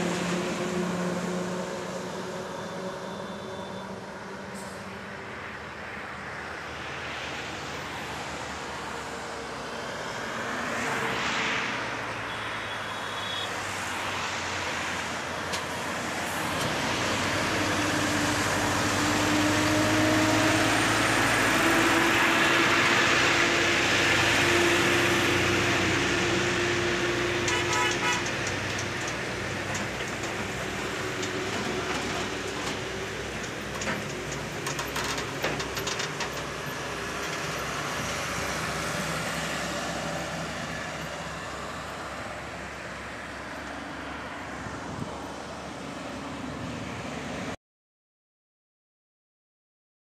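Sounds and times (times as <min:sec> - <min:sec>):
truck diesel engine drone: 0:00.0 - 0:13.4, 0:14.1 - 0:45.0
truck tyres on road: 0:00.0 - 0:47.6.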